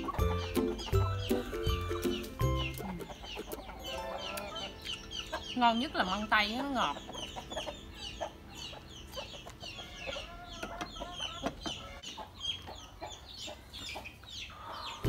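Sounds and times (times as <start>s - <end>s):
chickens clucking and peeping: 0.0s - 15.0s.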